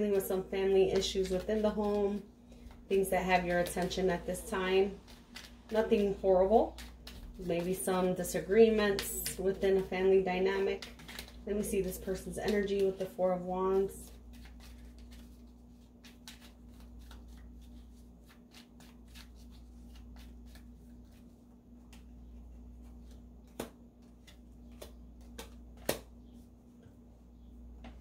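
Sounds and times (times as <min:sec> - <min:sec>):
cards being shuffled: 0:00.1 - 0:26.5.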